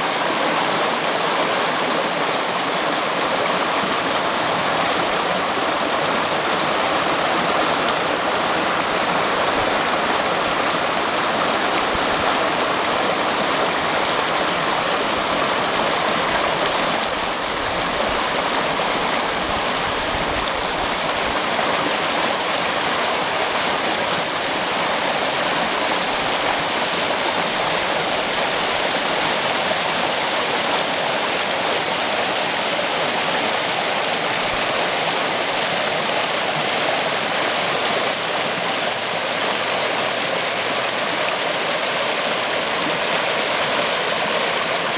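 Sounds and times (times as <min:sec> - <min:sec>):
stream flowing and rippling: 0:00.0 - 0:44.9.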